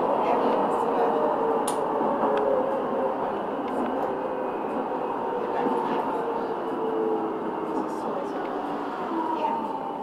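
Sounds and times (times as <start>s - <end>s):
tram wheels rolling on rails: 0.0s - 10.0s.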